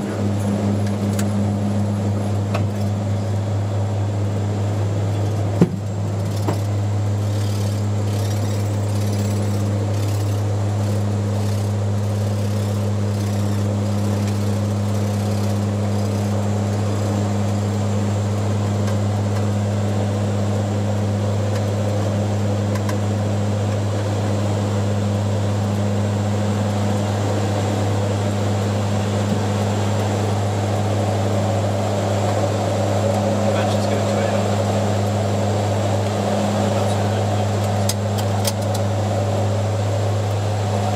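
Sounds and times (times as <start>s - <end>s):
turboprop engines humming: 0.0s - 40.9s
constant cabin hiss: 0.3s - 40.9s.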